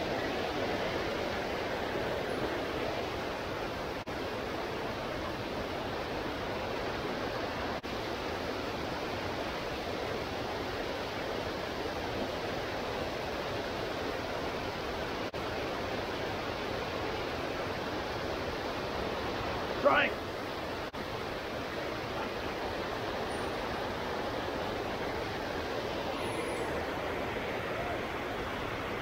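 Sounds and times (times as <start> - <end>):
water rushing over weir: 0.0 - 29.0.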